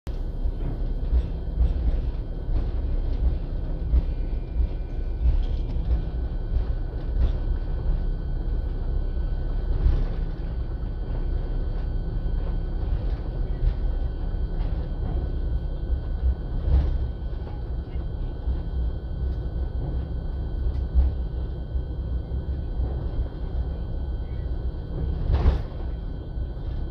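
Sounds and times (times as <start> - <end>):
jet engine cabin rumble: 0.1 - 26.9.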